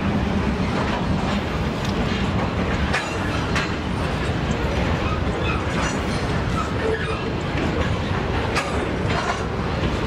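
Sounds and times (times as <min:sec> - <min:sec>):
freight train wagons rumbling: 0:00.0 - 0:10.0
wheels clicking over rail joints: 0:00.0 - 0:10.0.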